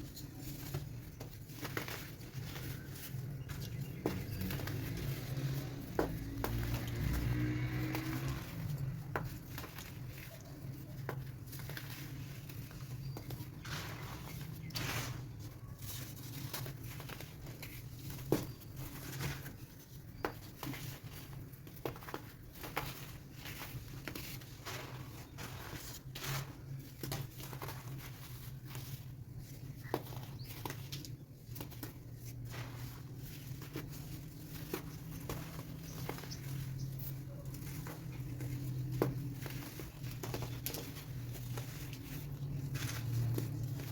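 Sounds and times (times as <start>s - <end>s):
baking soda crunching: 0.0s - 43.9s.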